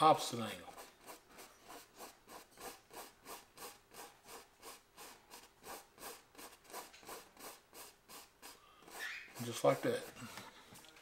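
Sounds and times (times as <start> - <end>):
brush scrubbing paint on canvas: 0.0 - 10.2.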